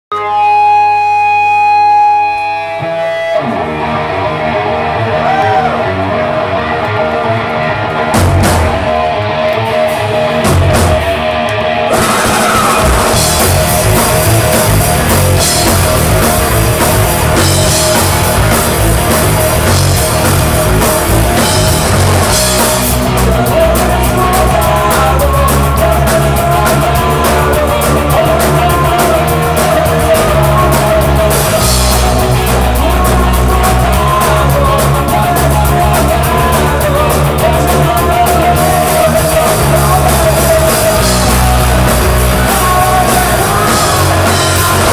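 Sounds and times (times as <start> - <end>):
live rock band playing: 0.1 - 44.9.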